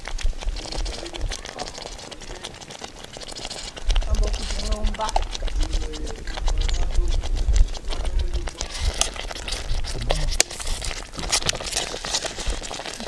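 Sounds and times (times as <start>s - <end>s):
fire pops and crackles: 0.0s - 13.0s
sauce simmering in a pot: 0.0s - 13.0s.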